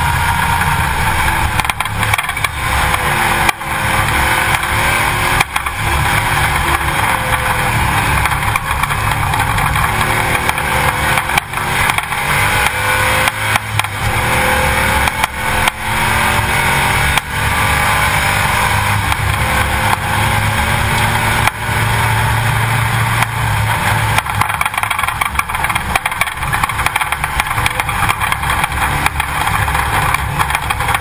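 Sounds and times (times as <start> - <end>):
car engine running at low revs: 0.0 - 31.0
steady rushing noise: 0.0 - 31.0.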